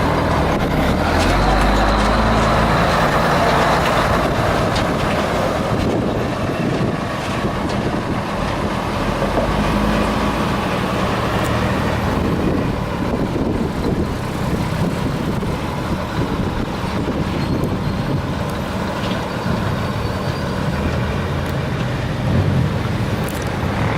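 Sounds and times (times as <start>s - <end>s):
truck diesel engine running: 0.0s - 20.1s.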